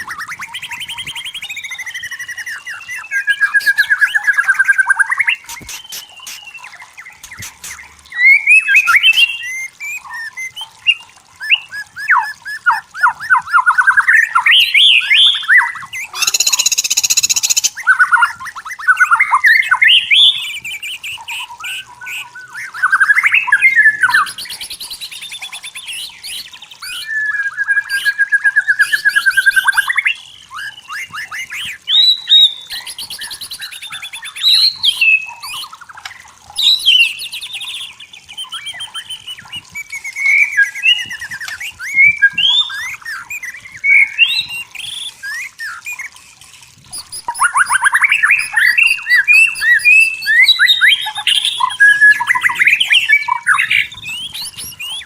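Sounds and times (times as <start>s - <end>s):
bird singing whistled phrases: 0.0s - 35.9s, 36.5s - 46.2s, 46.9s - 55.0s.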